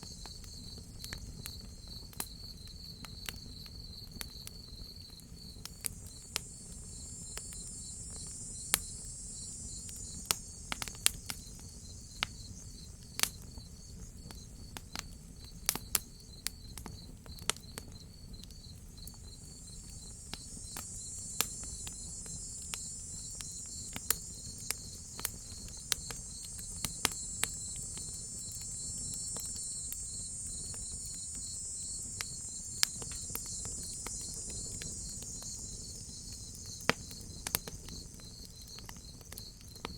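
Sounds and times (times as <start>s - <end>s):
crickets chirping: 0.0s - 39.9s
high insect hiss: 0.0s - 39.9s
wood fire crackling and popping: 0.0s - 39.9s.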